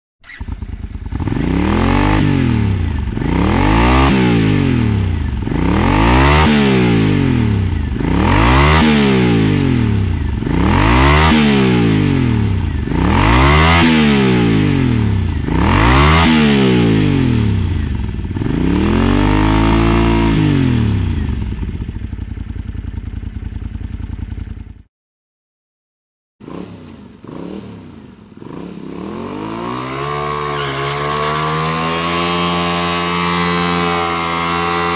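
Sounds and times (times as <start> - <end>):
motorcycle engine revving: 0.2 - 24.9, 26.4 - 34.9.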